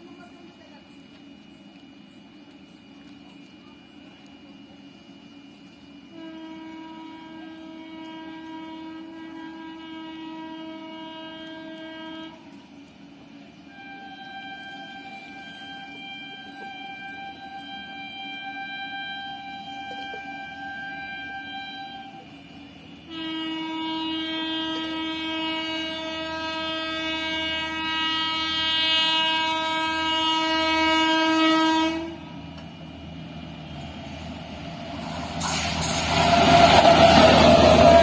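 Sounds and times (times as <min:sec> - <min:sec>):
passing train rumbling: 0:00.0 - 0:38.0
locomotive horn blast: 0:06.1 - 0:12.6, 0:13.7 - 0:38.0.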